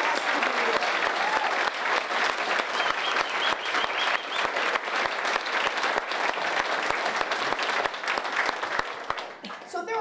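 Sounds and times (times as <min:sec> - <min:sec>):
people applauding: 0:00.0 - 0:10.0.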